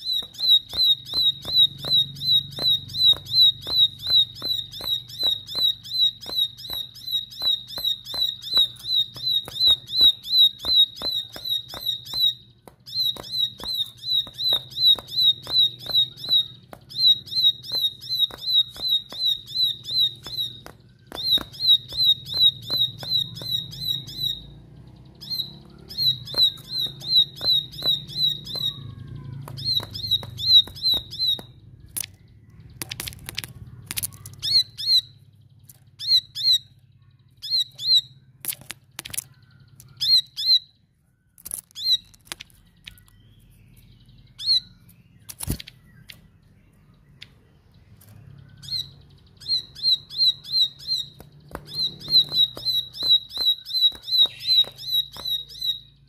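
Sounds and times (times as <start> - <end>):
bird sharp clicks: 0.0 - 24.4, 25.2 - 35.0, 37.4 - 40.4, 41.4 - 43.3, 44.5 - 46.3, 49.5 - 55.8
bird singing high sharp notes: 0.0 - 38.4, 41.7 - 56.0.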